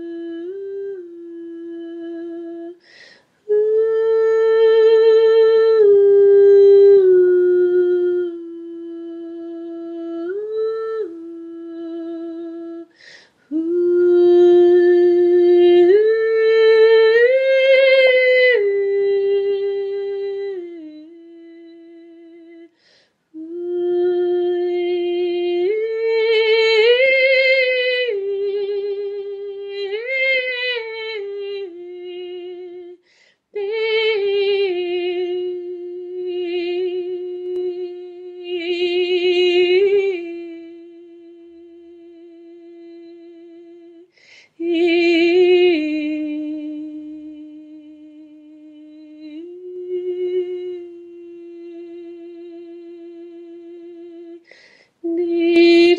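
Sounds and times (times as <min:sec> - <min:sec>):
woman singing wordless held tones: 0:00.0 - 0:55.9.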